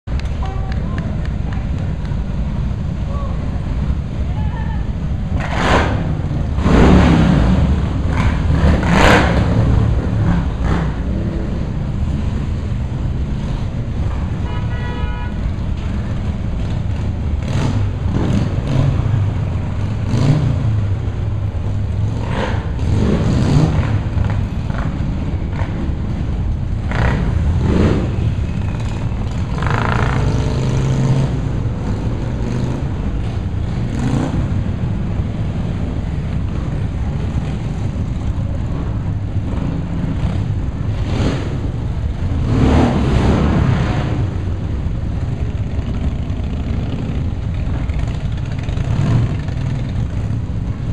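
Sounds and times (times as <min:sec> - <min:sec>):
motorcycle engines revving: 0:00.2 - 0:50.9.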